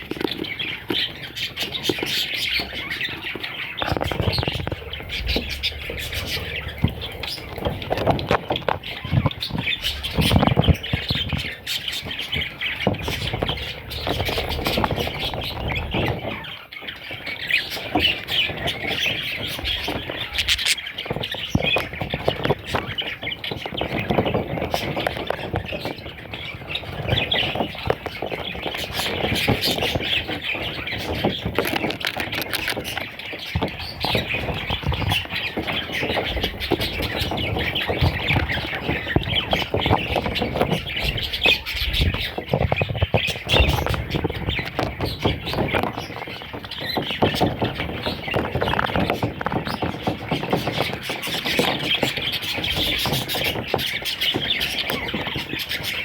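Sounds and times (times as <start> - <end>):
parrot chicks squawking: 0.0 - 56.0.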